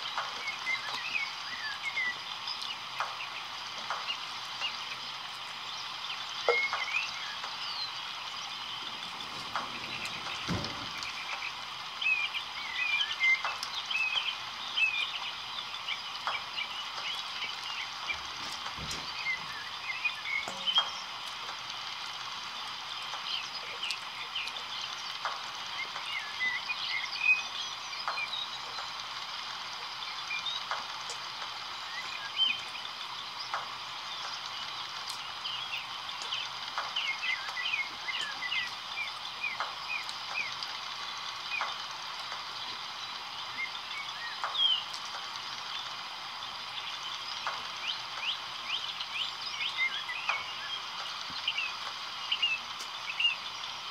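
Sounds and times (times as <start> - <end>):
steady high hiss: 0.0 - 53.9.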